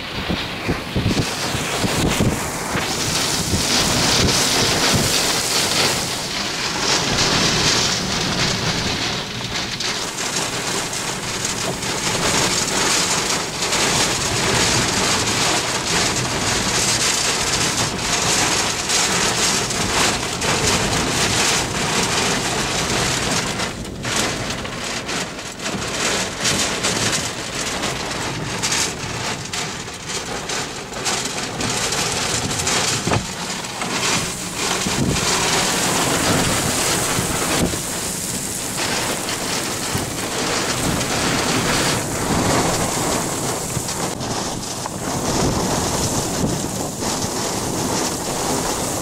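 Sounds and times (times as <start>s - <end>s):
heavy rain pelting car roof: 0.0s - 49.0s.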